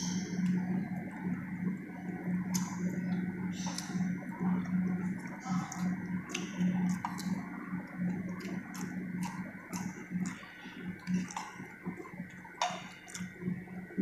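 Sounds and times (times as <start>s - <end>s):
low steady hum: 0.0s - 14.0s
chewing leaves: 2.2s - 13.6s.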